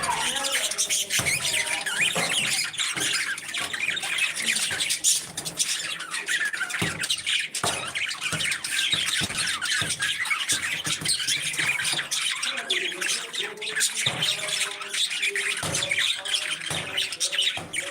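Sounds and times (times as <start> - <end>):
parrots chattering and squawking: 0.0 - 17.9.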